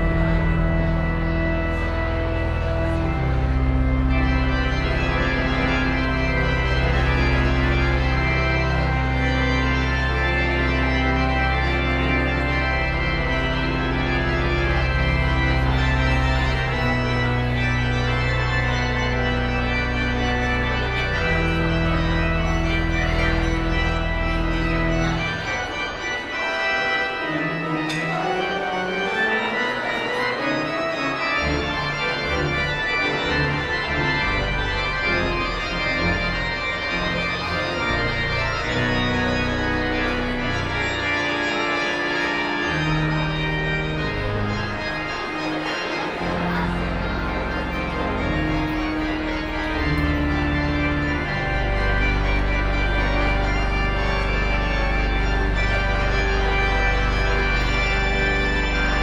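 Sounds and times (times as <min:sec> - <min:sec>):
organ playing chords: 0:00.0 - 0:59.0.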